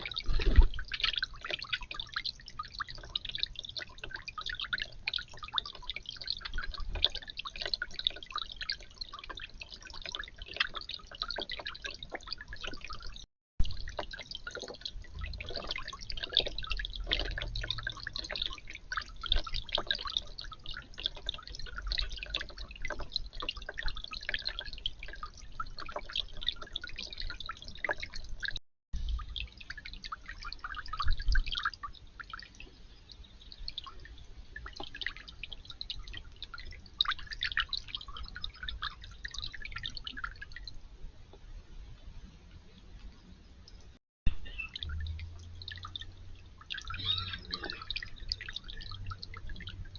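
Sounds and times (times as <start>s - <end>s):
water dripping and trickling: 0.0s - 49.9s.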